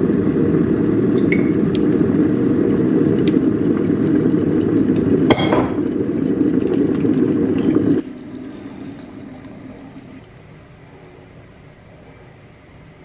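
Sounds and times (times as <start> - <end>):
electric kettle boiling: 0.0 - 13.0.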